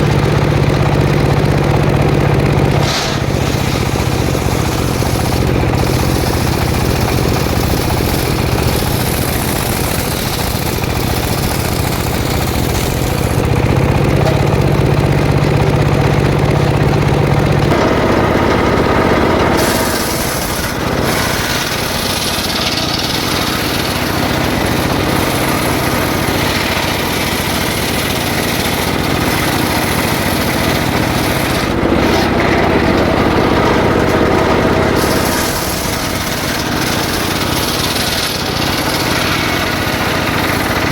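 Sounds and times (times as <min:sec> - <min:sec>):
petrol circular saw cutting wood: 0:00.0 - 0:40.9.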